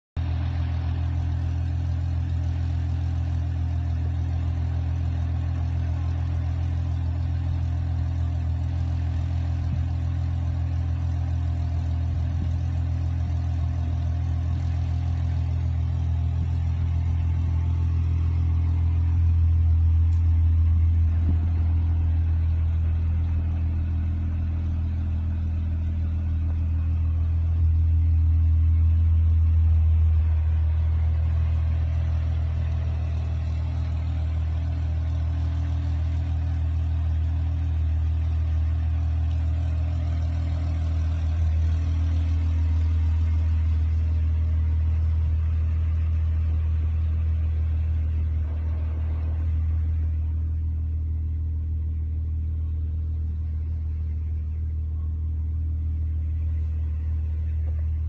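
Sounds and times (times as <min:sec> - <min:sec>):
car engine idling: 0:00.2 - 0:58.0.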